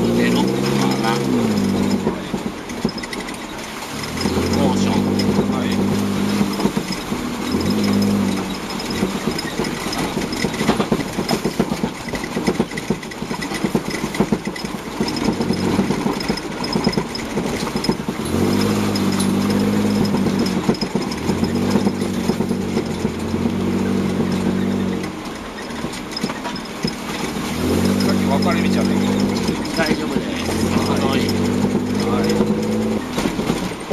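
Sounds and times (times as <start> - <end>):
car engine driving hard: 0.0 - 33.9
knocks and rattles: 0.0 - 33.9.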